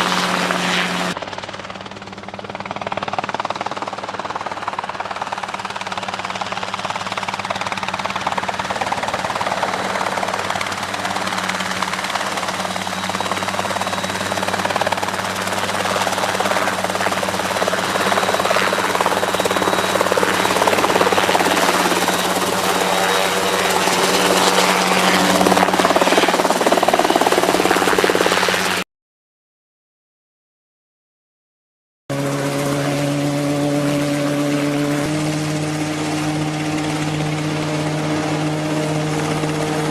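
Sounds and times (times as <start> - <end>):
helicopter engine and rotor: 0.0 - 28.9, 32.1 - 39.9.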